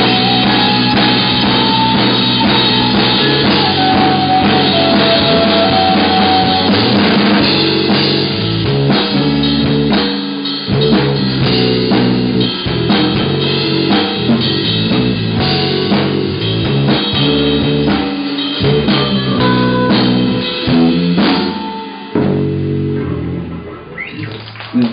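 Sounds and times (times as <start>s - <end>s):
drum hits: 0.0s - 10.2s, 10.8s - 22.6s
rock band playing: 0.0s - 24.9s.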